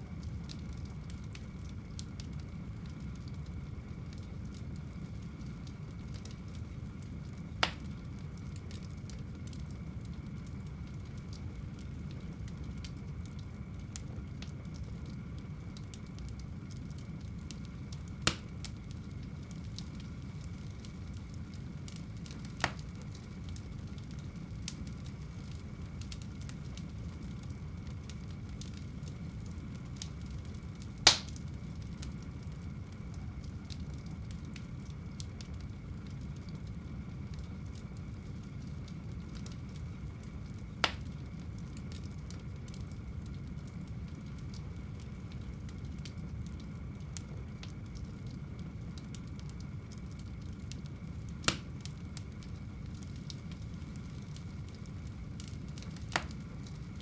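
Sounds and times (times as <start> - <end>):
burning wood popping: 0.0 - 57.0
faint crackling of fire: 0.0 - 57.0
fire flames rumbling: 0.0 - 57.0.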